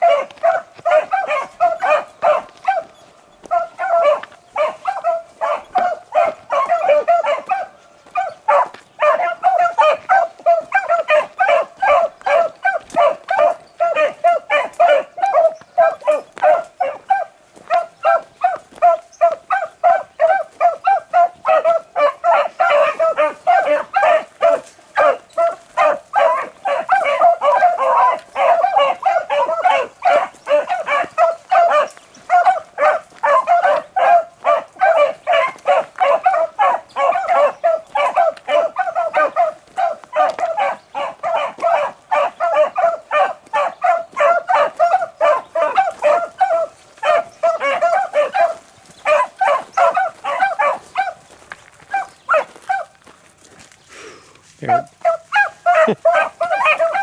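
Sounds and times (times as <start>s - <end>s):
beagles baying: 0.0s - 57.0s.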